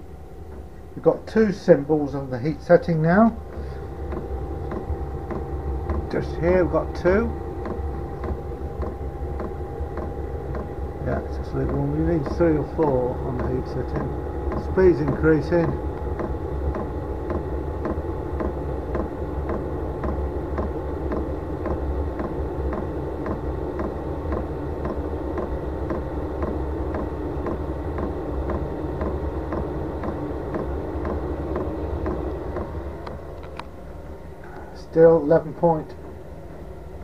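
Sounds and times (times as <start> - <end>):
heater fan and burner hum: 0.0 - 37.0
fuel pump ticking: 3.2 - 33.6.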